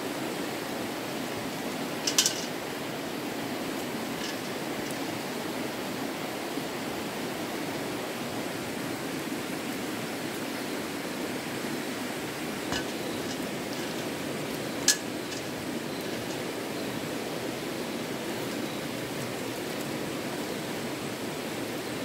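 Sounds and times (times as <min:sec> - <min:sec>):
stream running: 0:00.0 - 0:22.0.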